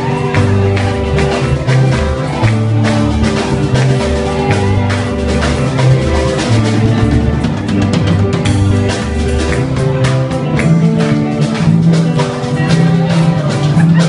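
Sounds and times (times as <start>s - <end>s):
bass line: 0.0s - 14.0s
drum kit beat: 0.0s - 14.0s
guitar: 0.0s - 14.0s.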